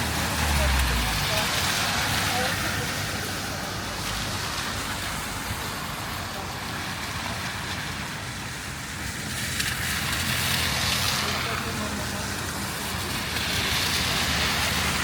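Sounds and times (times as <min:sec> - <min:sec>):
light rain falling: 0:00.0 - 0:15.0
traffic running by: 0:00.0 - 0:15.0.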